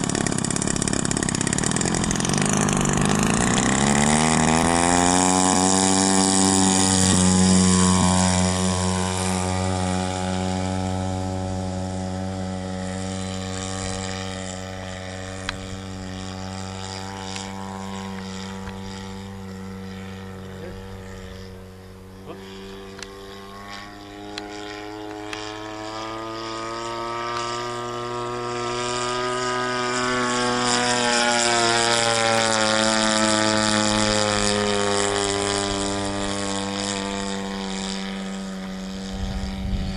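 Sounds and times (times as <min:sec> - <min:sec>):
model plane engine droning: 0:00.0 - 0:39.9.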